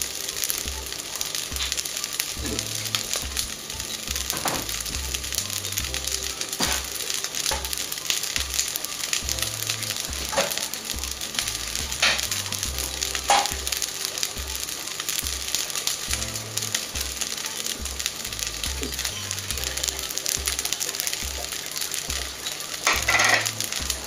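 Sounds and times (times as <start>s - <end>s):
background music with bass line: 0.0s - 24.0s
fried rice sizzling in a wok: 0.0s - 24.0s.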